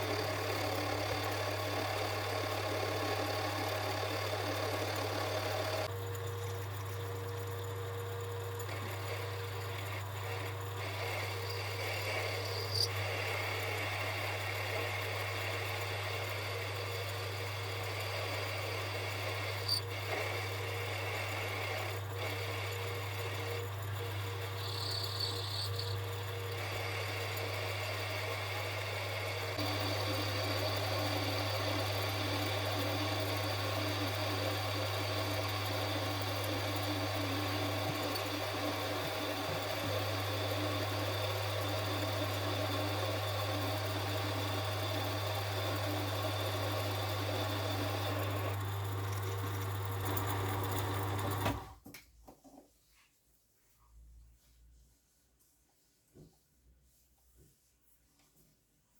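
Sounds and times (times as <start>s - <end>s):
metal lathe running: 0.0s - 51.6s.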